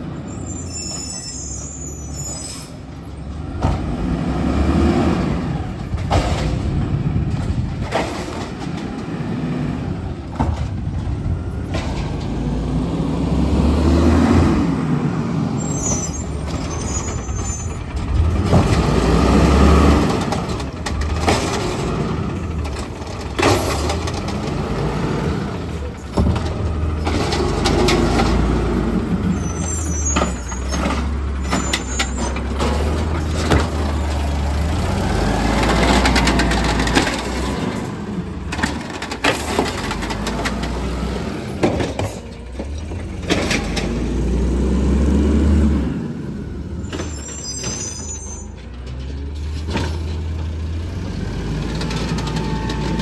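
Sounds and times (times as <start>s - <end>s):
truck diesel engine revving: 3.3s - 10.2s, 11.5s - 41.6s, 42.5s - 47.0s, 49.0s - 53.0s.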